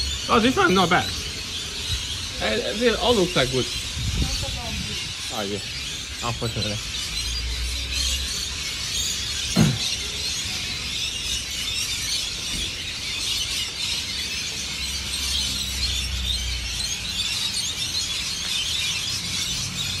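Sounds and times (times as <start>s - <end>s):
flock of birds chattering: 0.0s - 20.0s.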